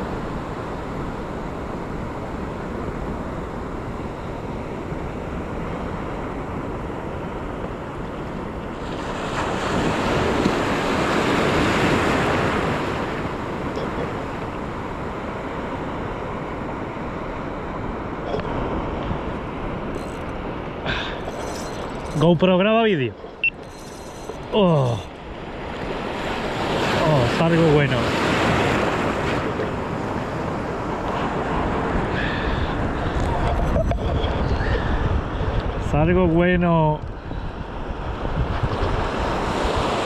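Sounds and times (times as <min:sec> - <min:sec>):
wind buffeting microphone: 0:00.0 - 0:20.9, 0:28.1 - 0:36.4, 0:37.0 - 0:40.0
sea surf washing: 0:00.0 - 0:40.0.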